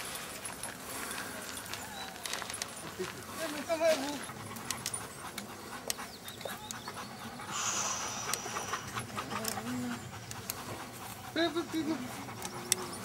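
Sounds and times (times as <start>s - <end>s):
dog panting: 2.5s - 13.0s.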